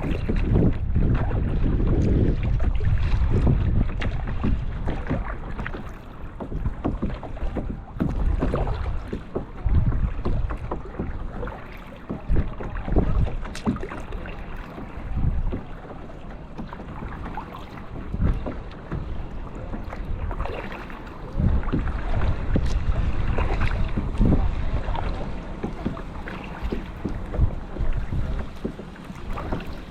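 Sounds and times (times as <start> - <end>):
paddle splashing water: 0.0 - 29.9
wind on microphone: 0.0 - 29.9.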